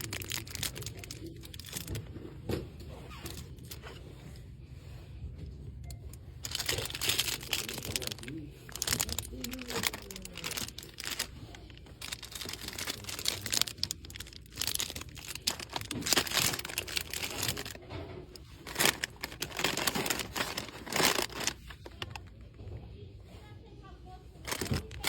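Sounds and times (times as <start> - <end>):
crinkly packaging rustling: 0.0 - 4.1, 6.0 - 22.8, 24.4 - 25.0.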